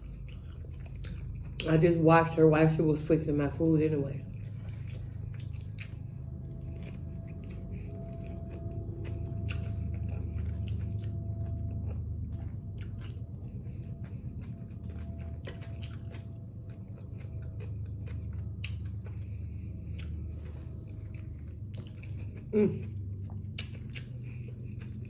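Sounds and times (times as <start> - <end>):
close-miked chewing: 0.0 - 25.0
low hum: 0.0 - 25.0.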